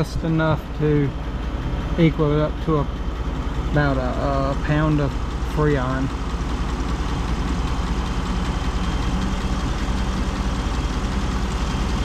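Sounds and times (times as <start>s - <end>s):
ac compressor running: 0.0s - 12.0s
car engine idling: 0.0s - 12.0s.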